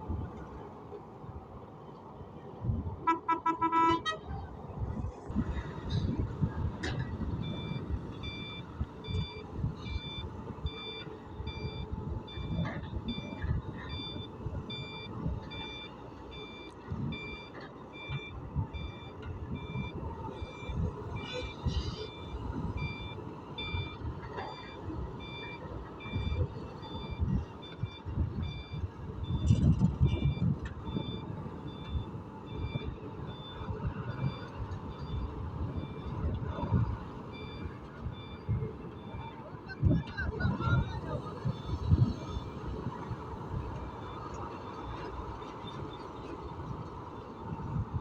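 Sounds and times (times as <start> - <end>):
heavy diesel machinery rumbling: 2.6 - 48.0
reversing alarm beeping: 6.6 - 48.0.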